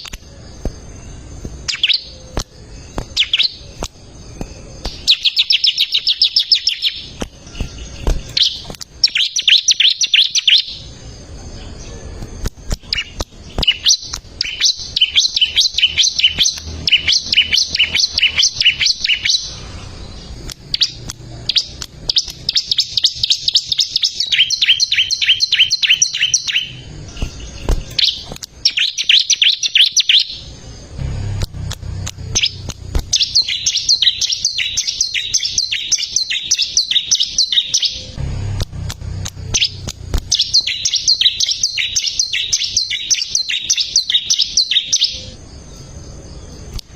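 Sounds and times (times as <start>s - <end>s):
bird singing rapid chipping notes: 0.0s - 46.9s.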